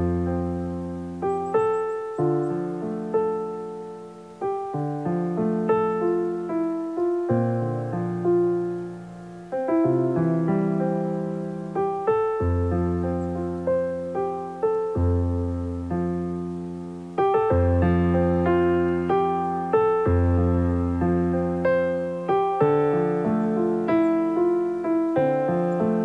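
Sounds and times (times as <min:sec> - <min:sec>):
slow piano chords: 0:00.0 - 0:26.0.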